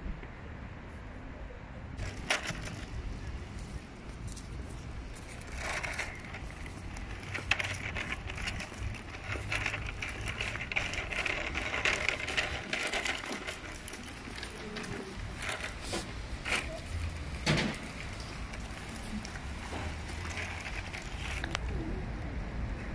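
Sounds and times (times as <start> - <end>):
toy cart wheels rattling on stone: 2.0 - 22.1.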